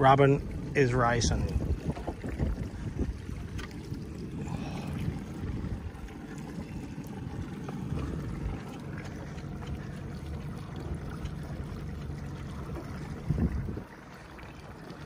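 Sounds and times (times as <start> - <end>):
low wind rumble: 0.0 - 15.0
water lapping against boat hull: 0.0 - 15.0.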